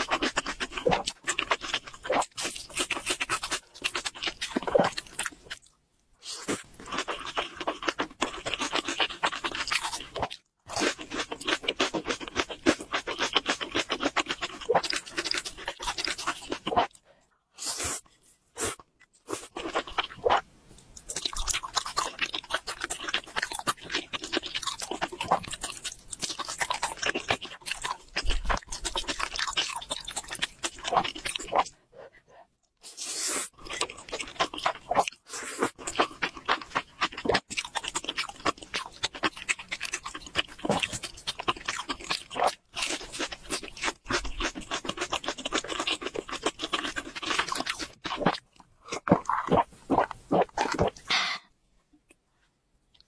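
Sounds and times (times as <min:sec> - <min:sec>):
noodles being slurped and chewed: 0:00.0 - 0:17.0, 0:17.6 - 0:20.4, 0:21.0 - 0:31.8, 0:32.8 - 0:51.3.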